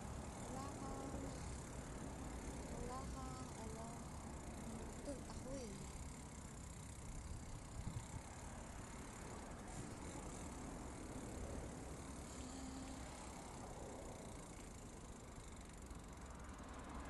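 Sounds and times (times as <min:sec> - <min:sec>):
car traffic hum: 0:00.0 - 0:17.0.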